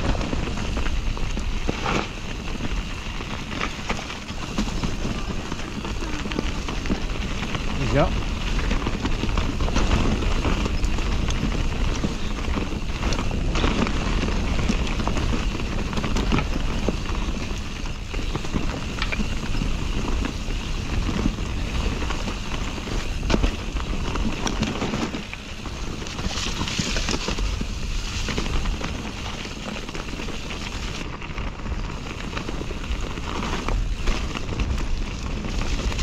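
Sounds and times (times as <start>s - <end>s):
bike rattling over roots: 0.0s - 36.0s
tyre and wind rush: 0.0s - 36.0s.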